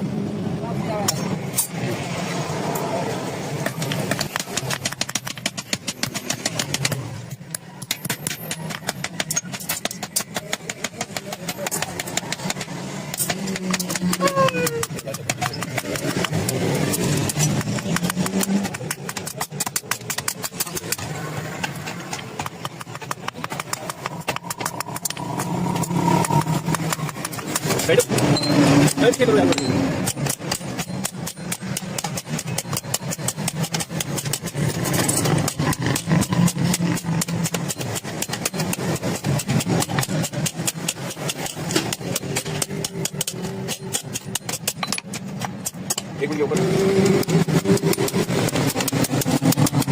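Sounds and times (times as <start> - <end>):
metal knocks and clicks: 3.6 - 49.9.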